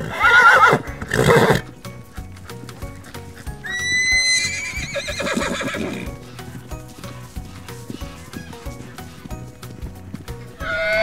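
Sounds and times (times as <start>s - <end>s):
horse neighing: 0.0s - 1.8s, 3.1s - 9.5s, 10.2s - 11.0s
light background music: 0.0s - 11.0s.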